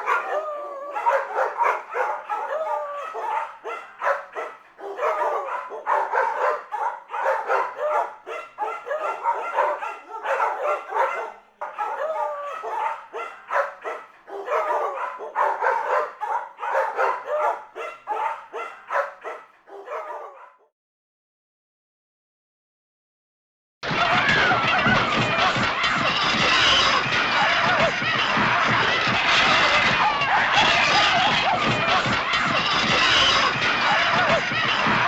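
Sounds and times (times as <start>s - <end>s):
dog barking and whining: 0.0s - 20.7s, 26.5s - 35.0s.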